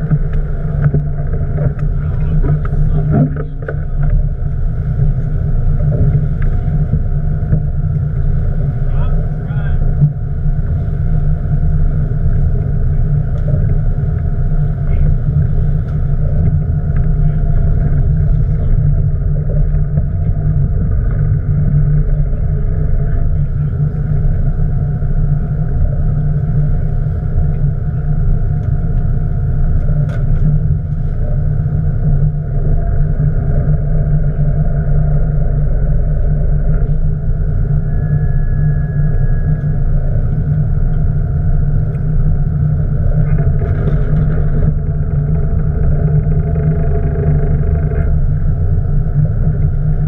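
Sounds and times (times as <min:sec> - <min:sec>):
boat engine rumbling: 0:00.0 - 0:50.0.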